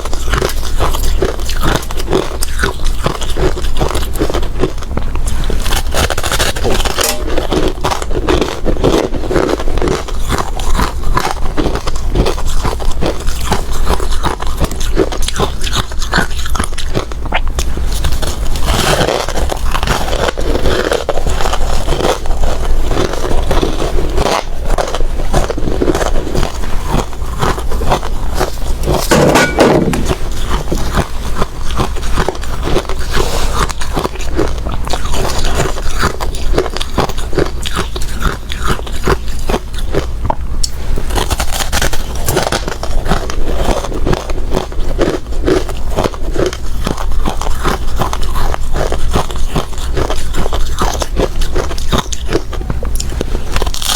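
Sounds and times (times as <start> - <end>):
ice being chewed: 0.0 - 53.9.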